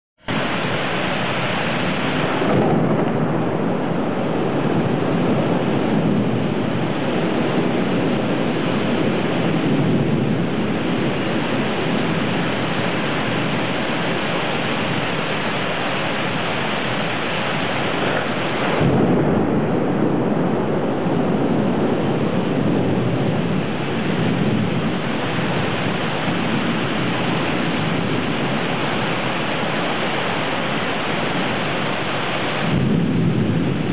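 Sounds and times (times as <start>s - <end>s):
heavy rain pouring: 0.2s - 33.9s
thunder rumbling: 0.2s - 33.9s.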